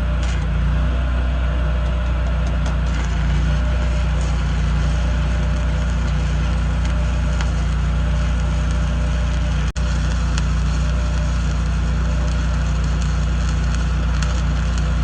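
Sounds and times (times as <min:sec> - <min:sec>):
welding arc crackling: 0:00.0 - 0:00.8, 0:01.7 - 0:15.0
welding machine humming: 0:00.0 - 0:15.0.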